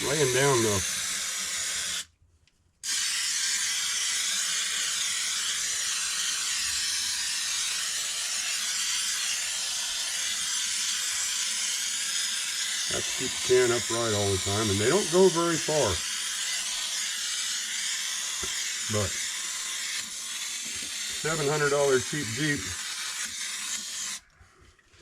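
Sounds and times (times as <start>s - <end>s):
aerosol spray hissing: 0.0s - 2.1s, 2.9s - 24.2s.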